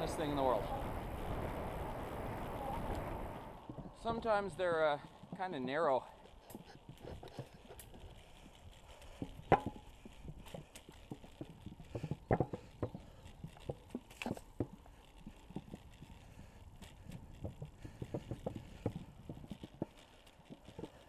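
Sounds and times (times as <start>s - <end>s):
bicycle rattling over bumps: 0.0s - 21.0s.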